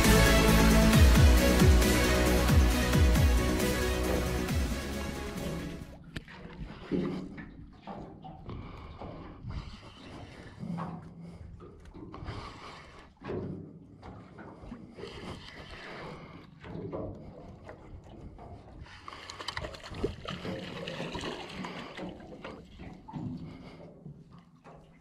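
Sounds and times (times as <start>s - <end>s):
water slapping against metal hull: 0.0s - 25.0s.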